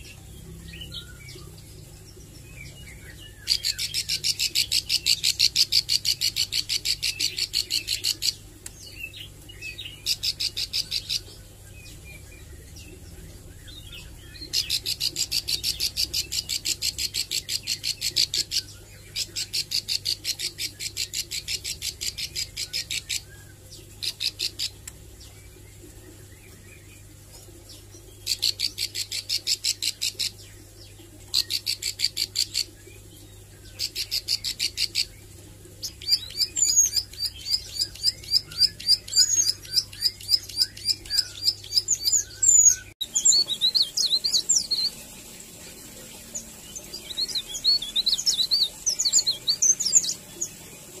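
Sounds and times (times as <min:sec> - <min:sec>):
small bird singing: 0:00.0 - 0:51.0.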